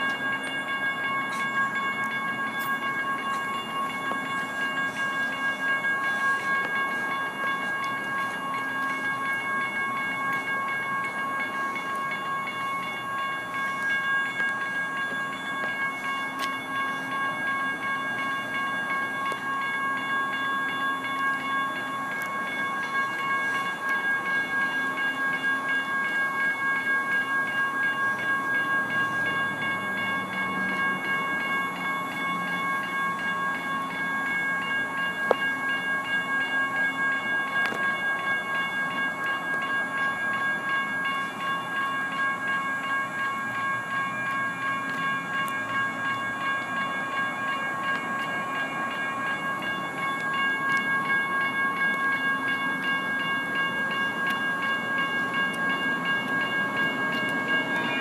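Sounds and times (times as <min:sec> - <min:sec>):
electronic crossing bell ringing: 0:00.0 - 0:58.0.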